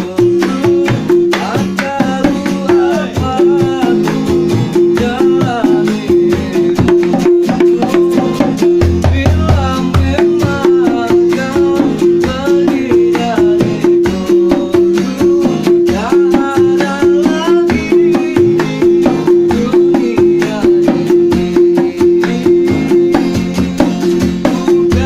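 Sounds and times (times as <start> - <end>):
hand drum strokes: 0.0 - 25.0
plucked string melody: 0.0 - 25.0.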